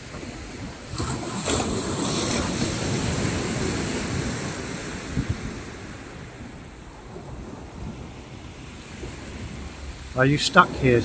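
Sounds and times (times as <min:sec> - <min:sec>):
sea waves washing on beach: 0:00.0 - 0:11.0
wind rumbling on microphone: 0:00.0 - 0:11.0.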